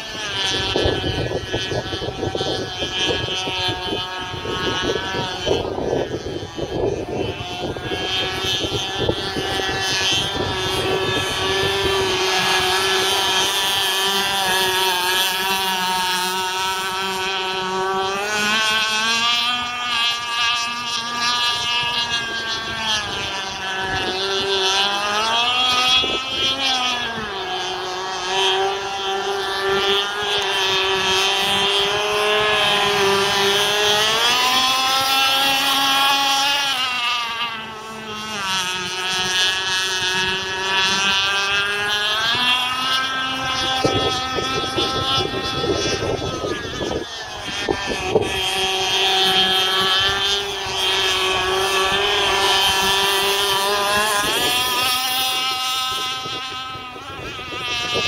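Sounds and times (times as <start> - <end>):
rc boat two-stroke engine racing: 0.0 - 58.0.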